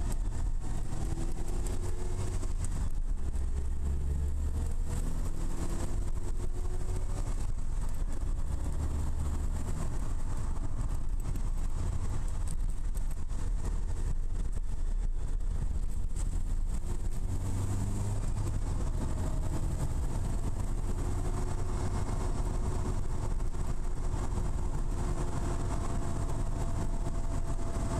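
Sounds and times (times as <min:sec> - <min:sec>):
car engine cruising: 0:00.0 - 0:27.9
road and tyre noise: 0:00.0 - 0:27.9.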